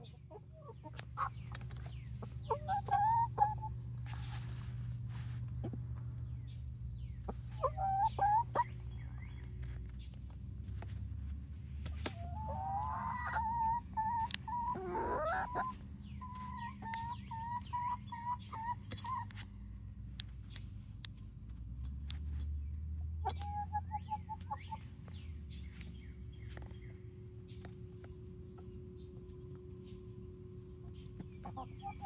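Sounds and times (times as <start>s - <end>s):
hens clucking and trilling: 0.0s - 21.3s, 22.1s - 32.0s.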